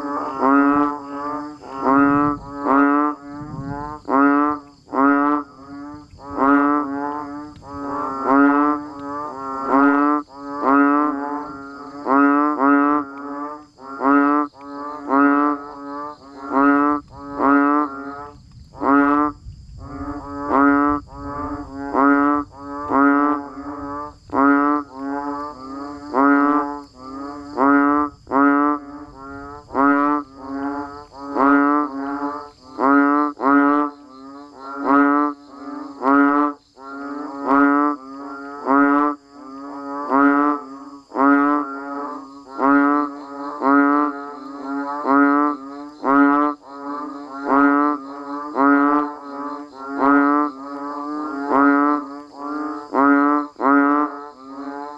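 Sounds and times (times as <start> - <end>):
frogs calling: 0.0 - 54.9.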